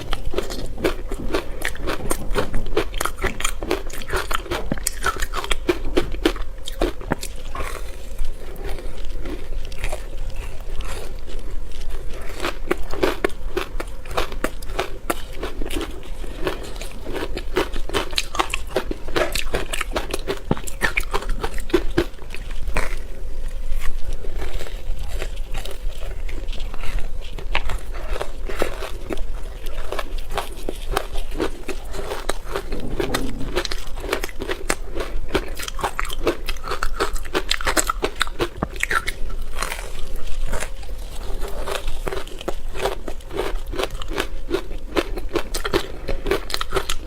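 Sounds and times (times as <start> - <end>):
person chewing hard ice: 0.0 - 47.0.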